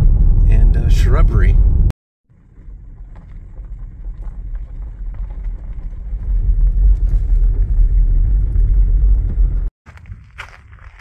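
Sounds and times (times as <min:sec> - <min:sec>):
car driving on dirt road: 0:00.0 - 0:11.0.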